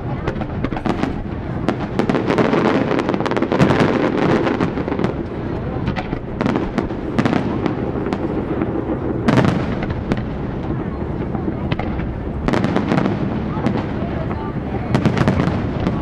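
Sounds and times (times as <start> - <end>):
fireworks bursts and crackling: 0.0 - 16.0.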